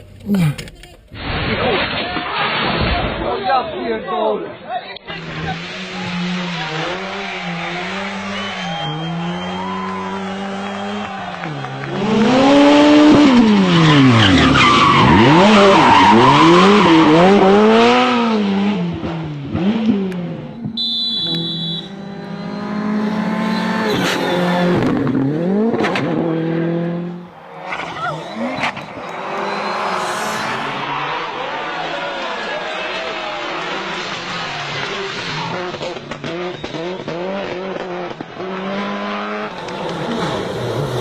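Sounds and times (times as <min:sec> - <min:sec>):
car engine revving: 0:05.1 - 0:31.9, 0:33.5 - 0:41.0.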